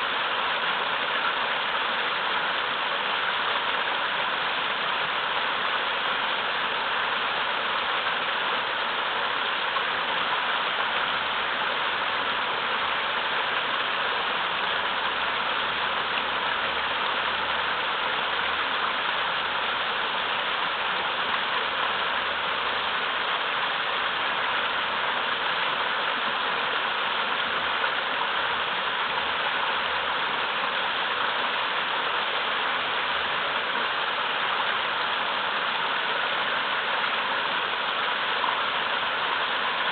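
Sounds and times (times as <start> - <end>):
water rushing over boulders: 0.0 - 39.9.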